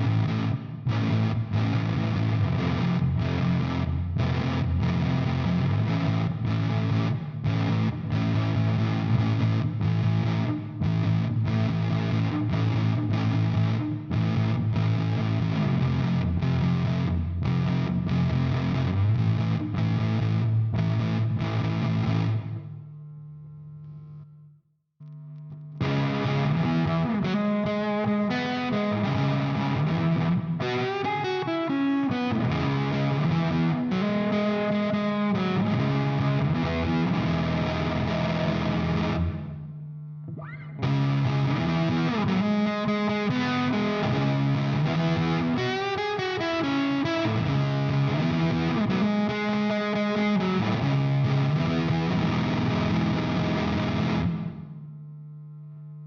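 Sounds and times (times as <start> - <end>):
distorted electric guitar riff: 0.0 - 22.8, 25.0 - 54.9.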